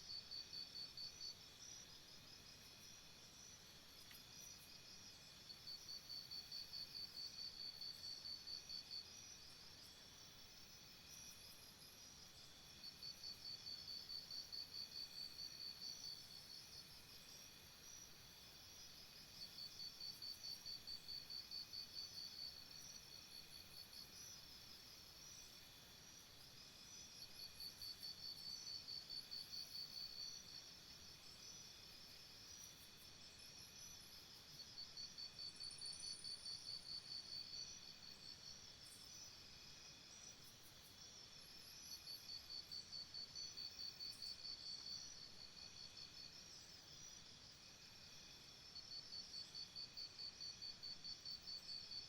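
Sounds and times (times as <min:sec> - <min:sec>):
high insect drone: 0:00.1 - 0:52.0.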